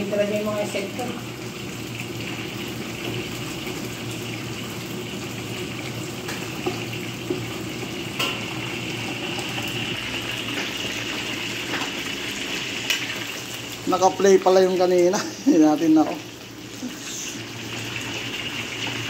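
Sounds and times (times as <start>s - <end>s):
chicken deep-frying in hot oil: 0.0s - 19.0s.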